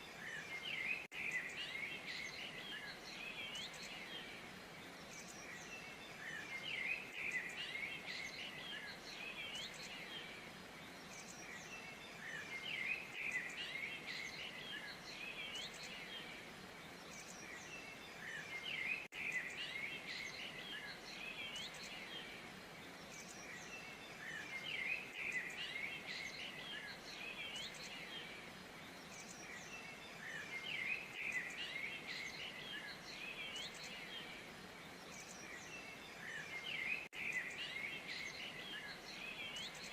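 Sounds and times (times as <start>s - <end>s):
outdoor ambient hiss: 0.0s - 39.9s
small birds chirping: 0.0s - 39.9s.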